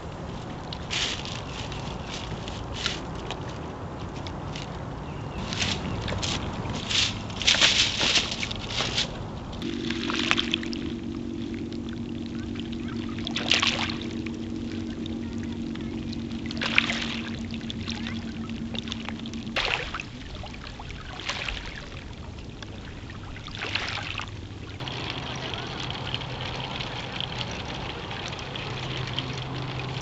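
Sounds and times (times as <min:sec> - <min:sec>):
lake waves lapping on rocks: 0:00.2 - 0:30.0
steady low hum: 0:05.0 - 0:30.0.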